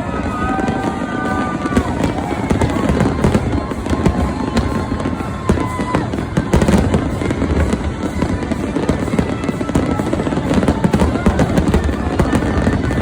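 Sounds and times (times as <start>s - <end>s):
fireworks booming and crackling: 0.0s - 13.0s
music playing: 0.0s - 13.0s.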